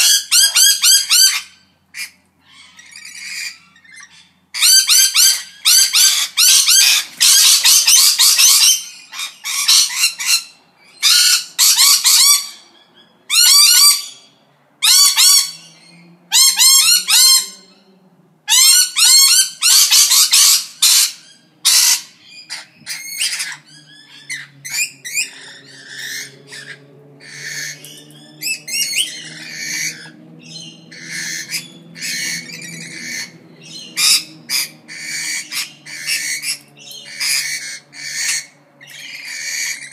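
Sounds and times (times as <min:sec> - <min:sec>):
parrots squawking: 0:00.0 - 0:17.9, 0:18.5 - 0:39.9.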